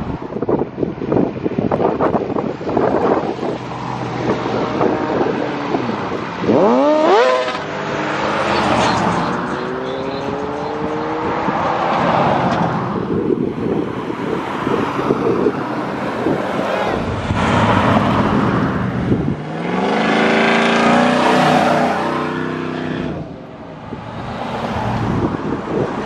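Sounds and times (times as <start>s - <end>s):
trucks driving past accelerating: 3.2s - 26.0s.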